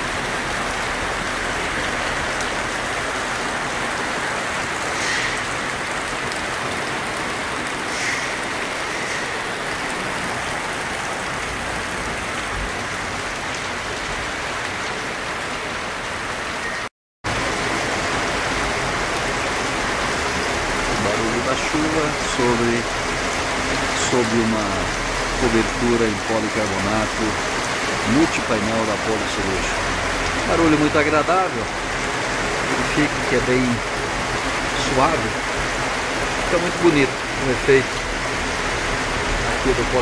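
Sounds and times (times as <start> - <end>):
rain on plastic roof: 0.0 - 16.7, 17.3 - 40.0.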